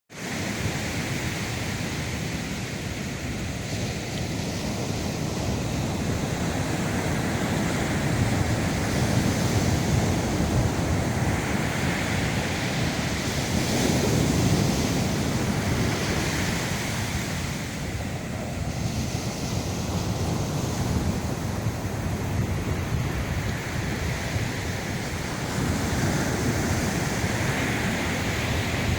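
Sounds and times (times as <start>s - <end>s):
surf breaking on beach: 0.1s - 28.9s
wind buffeting microphone: 0.2s - 28.9s.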